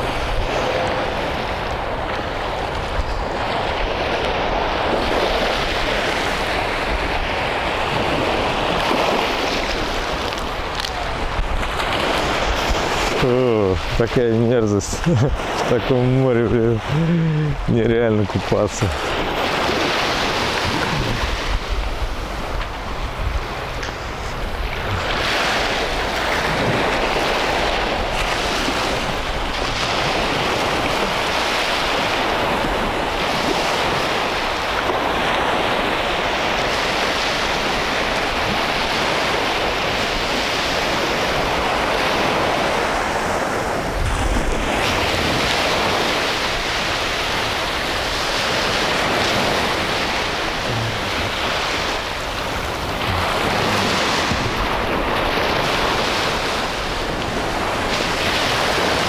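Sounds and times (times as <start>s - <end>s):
waves washing onto sandy shore: 0.0s - 59.0s
wind rumbling on microphone: 0.0s - 59.0s.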